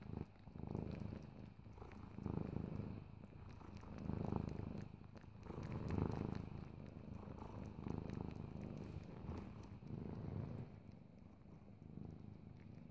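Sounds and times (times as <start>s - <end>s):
cat purring: 0.0s - 12.9s.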